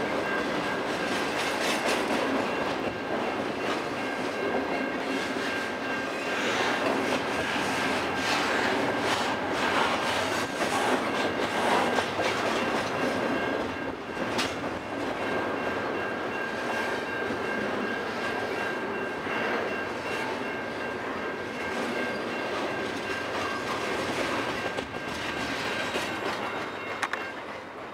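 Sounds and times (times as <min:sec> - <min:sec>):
train wheels rolling on rail: 0:00.0 - 0:27.9.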